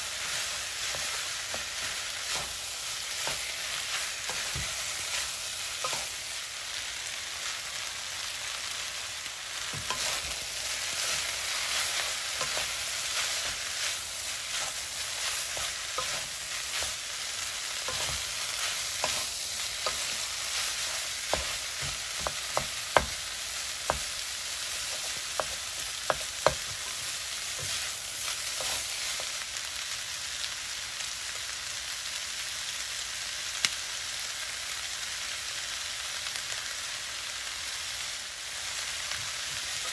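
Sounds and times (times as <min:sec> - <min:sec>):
noodles sizzling in a frying pan: 0:00.0 - 0:39.9.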